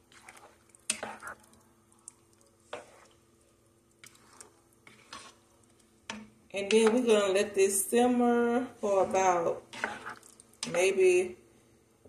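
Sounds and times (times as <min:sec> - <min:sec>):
spoon stirring soup in pot: 0:00.0 - 0:07.6, 0:08.7 - 0:11.0
faint steady hum: 0:00.0 - 0:12.0.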